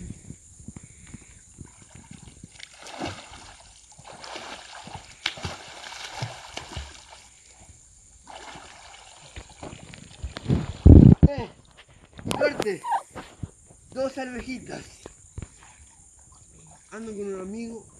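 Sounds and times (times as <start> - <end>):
creek water splashing: 1.6 - 13.4, 14.0 - 17.9.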